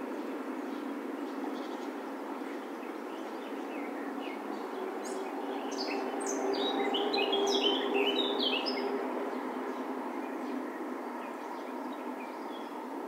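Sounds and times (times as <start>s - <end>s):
warbler singing: 0.7s - 13.0s.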